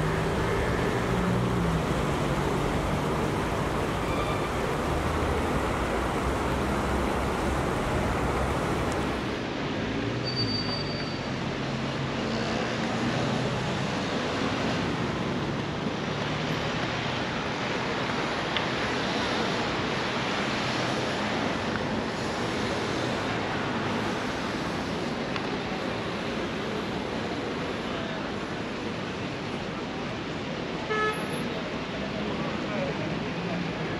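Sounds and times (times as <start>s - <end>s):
city traffic noise: 0.0s - 33.9s.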